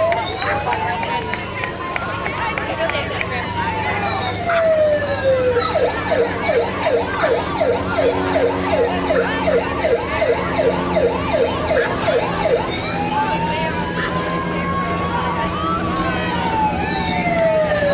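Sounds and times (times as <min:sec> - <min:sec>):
emergency vehicle siren: 0:00.0 - 0:17.9.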